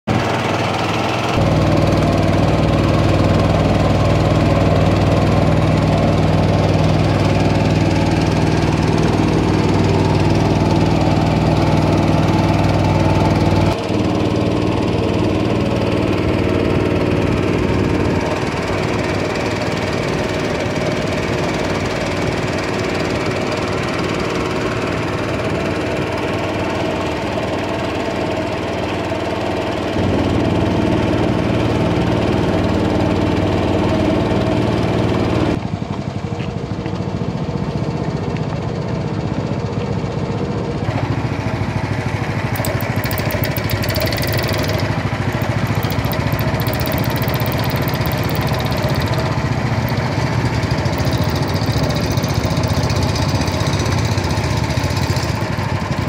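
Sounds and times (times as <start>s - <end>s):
small boat engine running: 0.1s - 35.5s, 40.9s - 56.0s.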